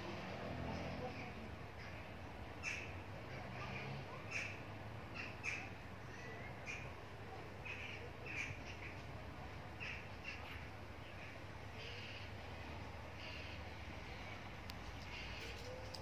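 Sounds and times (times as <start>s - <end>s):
small birds chirping: 0.6s - 16.0s.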